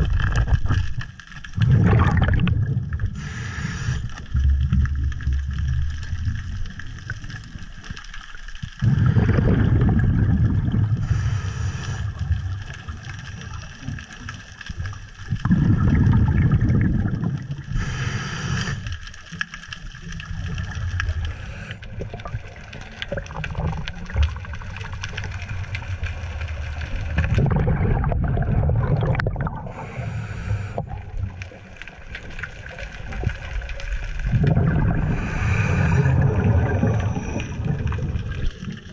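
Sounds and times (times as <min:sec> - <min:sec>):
exhaled bubbles underwater: 0:00.0 - 0:38.9.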